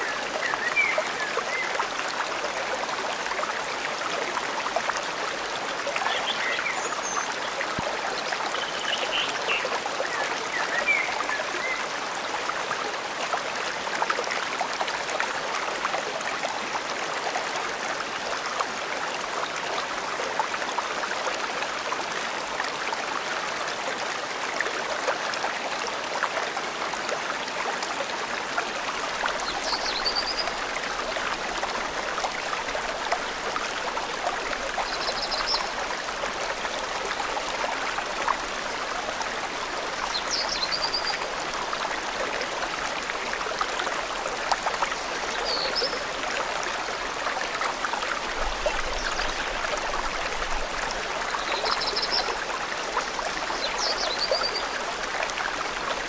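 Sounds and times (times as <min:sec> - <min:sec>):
forest stream running: 0:00.0 - 0:56.0.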